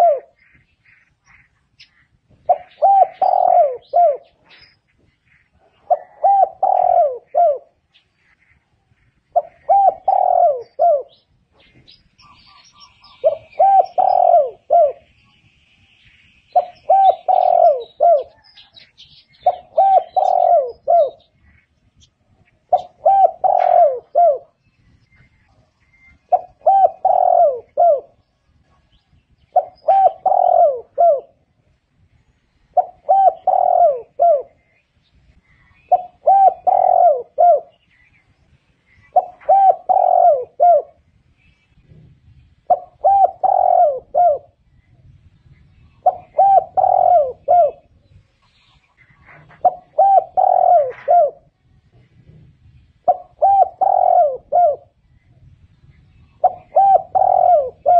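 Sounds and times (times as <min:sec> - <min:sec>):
dove cooing: 0:00.0 - 0:15.2, 0:16.5 - 0:31.8, 0:32.6 - 0:34.8, 0:35.4 - 0:38.3, 0:38.9 - 0:57.9
small birds chirping: 0:00.0 - 0:57.9.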